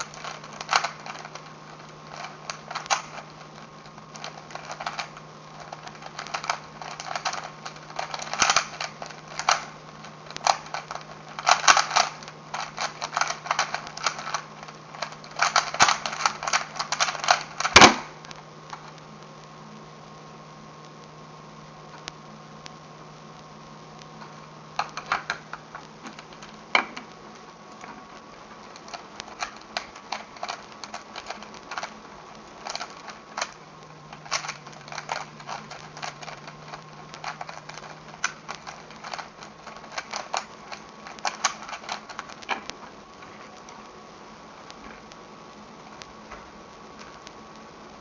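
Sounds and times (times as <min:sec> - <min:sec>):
plastic puzzle cube clattering: 0:00.0 - 0:19.0, 0:24.2 - 0:43.8
faint steady hum: 0:00.0 - 0:48.0.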